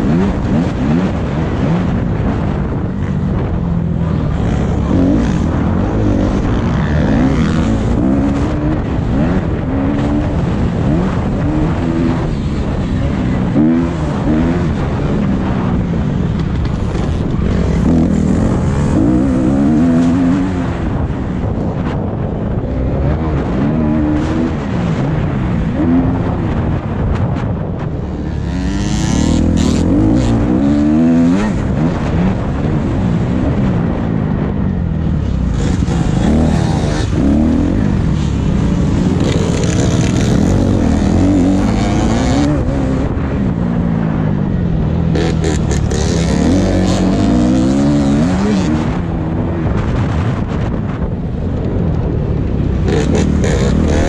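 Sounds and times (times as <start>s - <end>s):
motocross bike engine revving: 0.0s - 21.8s, 22.5s - 27.0s, 27.9s - 34.0s, 34.7s - 49.9s, 52.7s - 54.0s.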